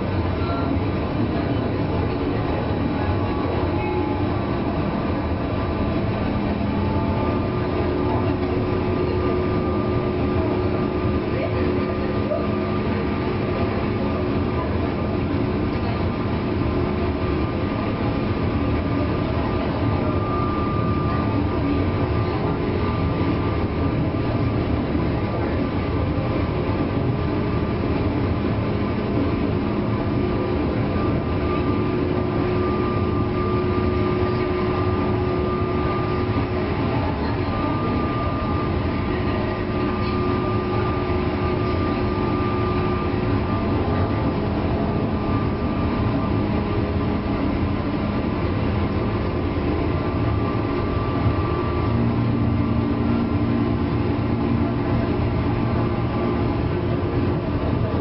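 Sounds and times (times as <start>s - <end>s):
electrical whining tones: 0.0s - 58.0s
train running rumble: 0.0s - 58.0s.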